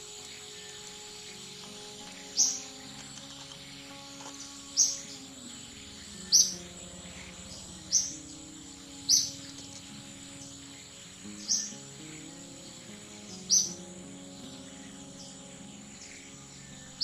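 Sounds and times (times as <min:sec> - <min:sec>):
bird chirping: 0:00.0 - 0:17.0
soft background music: 0:00.0 - 0:17.0.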